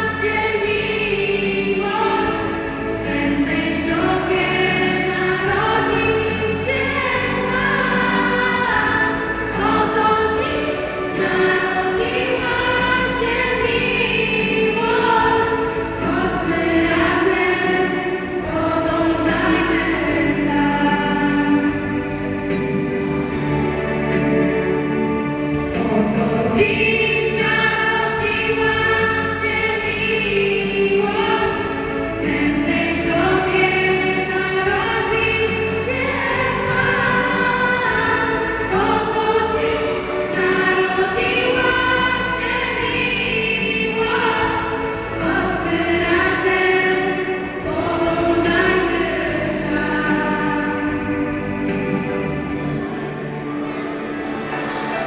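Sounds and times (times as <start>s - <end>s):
girls singing into microphones: 0.0s - 23.4s, 25.0s - 52.9s
musical accompaniment: 0.0s - 55.0s.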